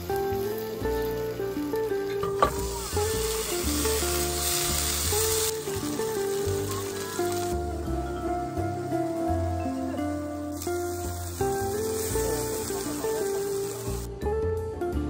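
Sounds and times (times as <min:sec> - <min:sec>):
patty sizzling in frying pan: 0:00.0 - 0:14.1
soft background melody: 0:00.0 - 0:15.0.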